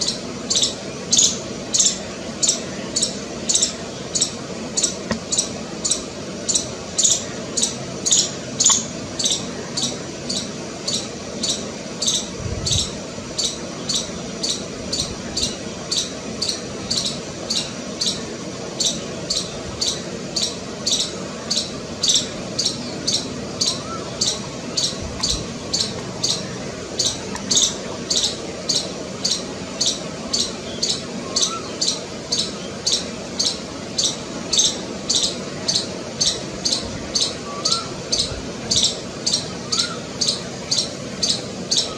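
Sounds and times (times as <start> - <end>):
squirrel chirping: 0.0 - 41.9.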